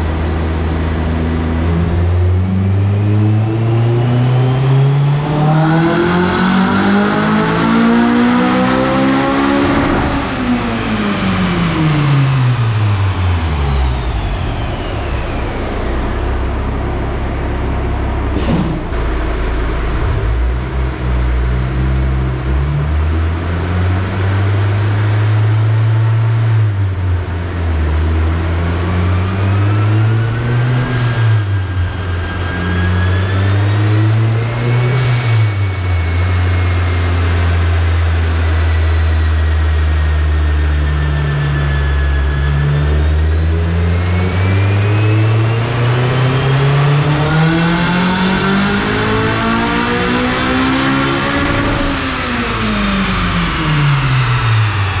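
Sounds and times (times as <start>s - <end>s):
engine revving on a dyno: 0.0s - 55.0s
high turbo whine: 0.0s - 55.0s.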